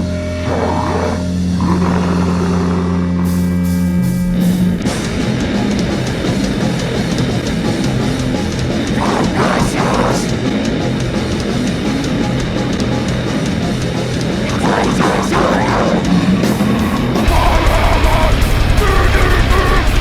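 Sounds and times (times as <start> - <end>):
distorted guitars: 0.0 - 20.0
fast drumming: 3.3 - 20.0.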